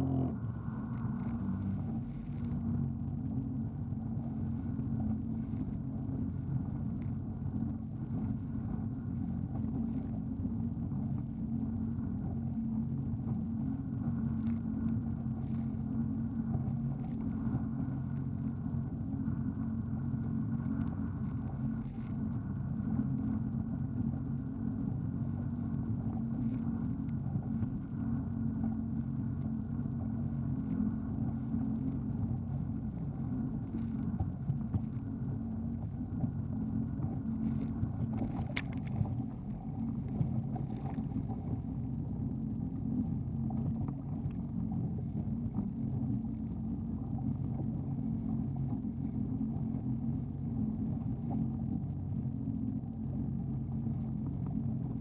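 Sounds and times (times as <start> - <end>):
jet ski engine droning: 0.0 - 55.0.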